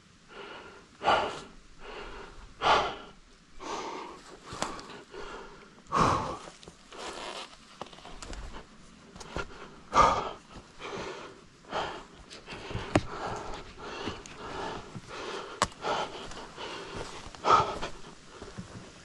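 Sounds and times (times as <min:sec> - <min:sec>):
person panting hard: 0:00.3 - 0:06.6, 0:08.4 - 0:18.8.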